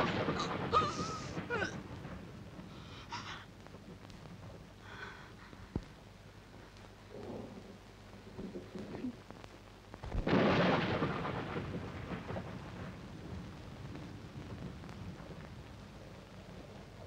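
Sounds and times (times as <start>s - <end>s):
thunder rumbling: 0.0s - 5.6s, 7.0s - 9.1s, 10.0s - 17.0s
rain hissing: 0.0s - 17.0s.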